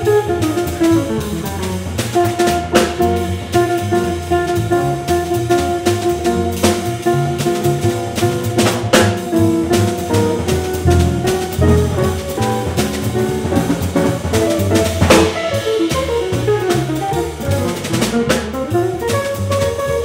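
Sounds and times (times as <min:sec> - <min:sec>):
jazz trio playing live: 0:00.0 - 0:20.0.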